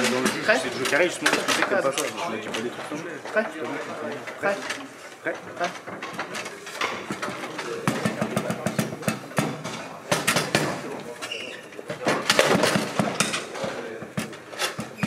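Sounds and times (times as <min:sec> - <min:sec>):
foosball ball clicks and knocks: 0:00.0 - 0:15.0
foosball rods clacking: 0:00.0 - 0:15.0.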